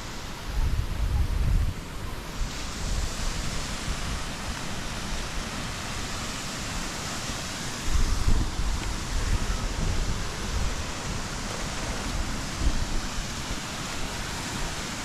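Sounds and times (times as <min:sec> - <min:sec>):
rushing flowing water: 0:00.0 - 0:15.0
wind buffeting microphone: 0:00.0 - 0:15.0.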